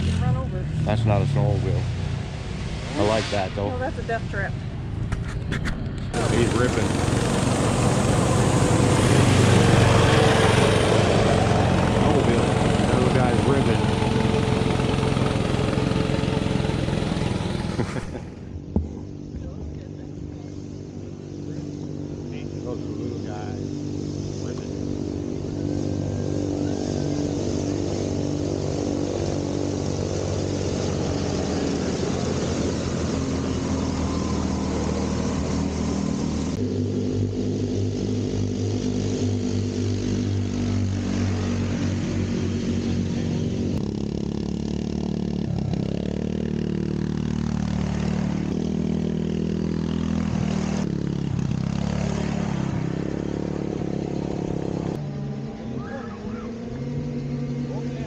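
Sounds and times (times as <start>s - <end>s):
snowmobile engines revving: 0.0s - 58.0s.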